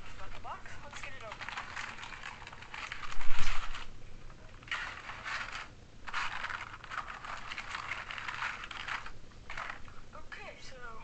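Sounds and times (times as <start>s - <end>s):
plastic toy parts rattling: 0.1s - 3.9s, 4.5s - 10.0s.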